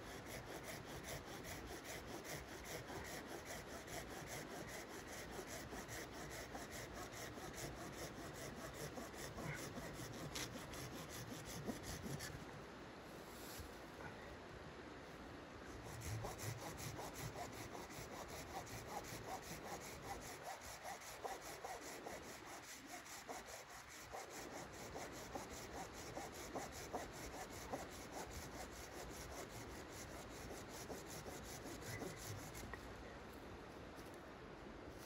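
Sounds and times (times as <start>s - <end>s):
hand saw cutting wood: 0.0s - 12.4s, 15.8s - 32.8s.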